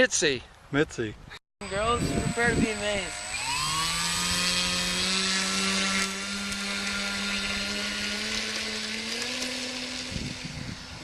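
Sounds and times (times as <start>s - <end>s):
model airplane electric motor whine: 1.6s - 11.0s.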